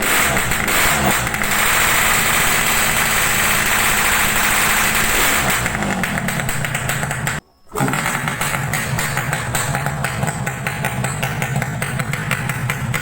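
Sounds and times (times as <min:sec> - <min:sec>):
loud vehicle exhaust: 0:00.0 - 0:13.0.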